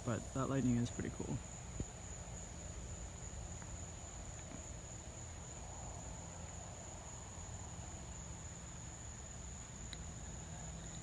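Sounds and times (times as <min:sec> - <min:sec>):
night insects droning: 0:00.0 - 0:11.0.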